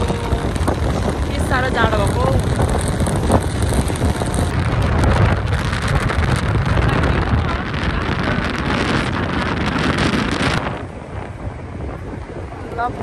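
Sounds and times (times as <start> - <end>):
road noise rumble: 0.0 - 13.0
wind buffeting microphone: 0.0 - 13.0.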